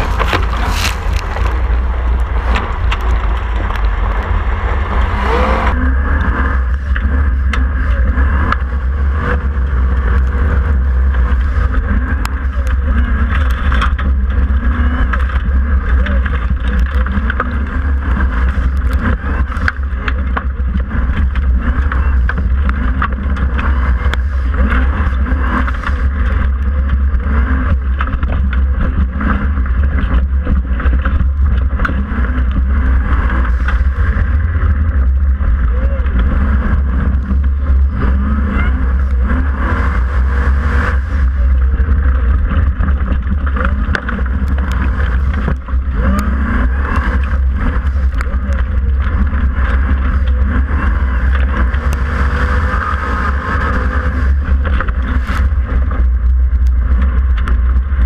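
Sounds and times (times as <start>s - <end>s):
buggy engine running hard: 0.0s - 58.0s
clatter and rattling: 0.0s - 58.0s.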